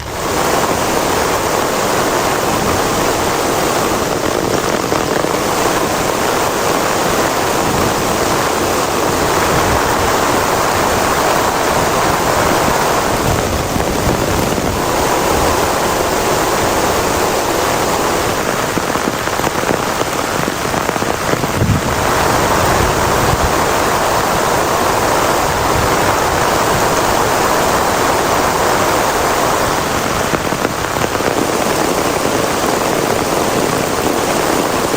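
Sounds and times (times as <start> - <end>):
heavy rain hissing: 0.0 - 34.9.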